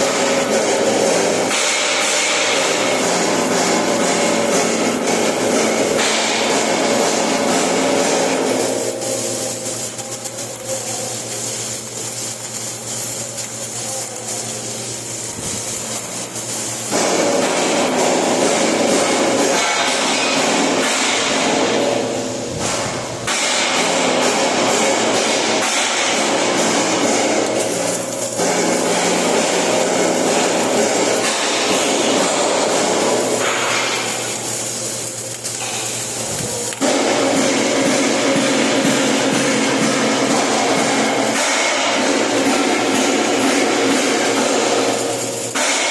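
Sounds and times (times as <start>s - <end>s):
crackling welding arc: 0.0s - 45.9s.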